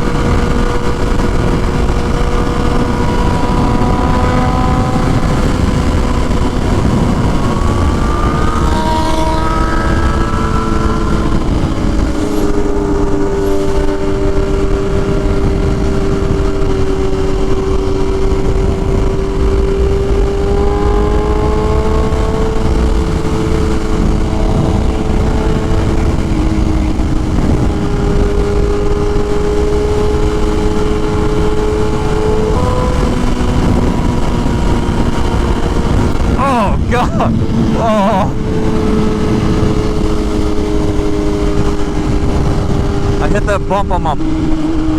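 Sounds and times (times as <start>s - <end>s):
motorcycle engine revving: 0.0s - 44.9s
wind rumble on microphone: 0.0s - 44.9s.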